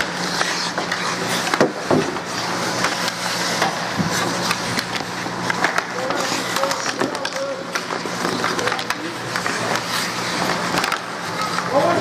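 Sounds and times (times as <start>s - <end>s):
hockey sticks clacking: 0.0s - 12.0s
skate blades scraping ice: 0.0s - 12.0s.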